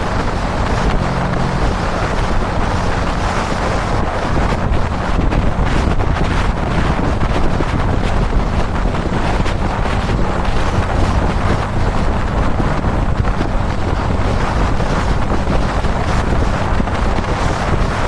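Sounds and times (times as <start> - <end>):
motorcycle engine drone: 0.0 - 18.0
wind rushing over microphone: 0.0 - 18.0.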